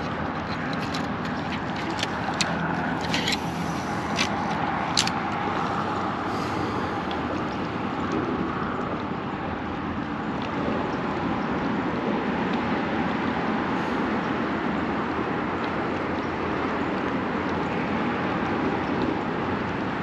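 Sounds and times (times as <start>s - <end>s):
traffic rumble on bridge: 0.0s - 20.0s.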